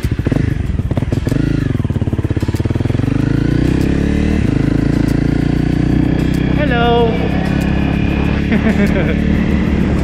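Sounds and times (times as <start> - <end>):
dirt bike engine accelerating: 0.0 - 10.0.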